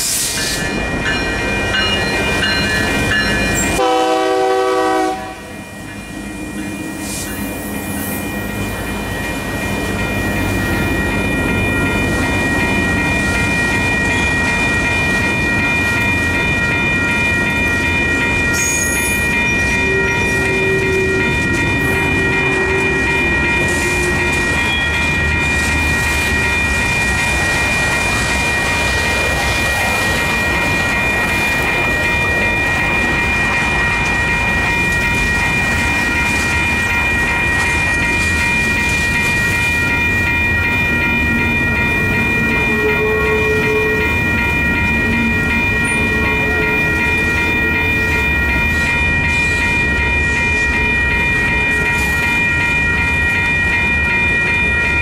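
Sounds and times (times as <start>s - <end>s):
train wheels clattering on rail: 0.0s - 55.0s
high ringing tone: 0.3s - 55.0s.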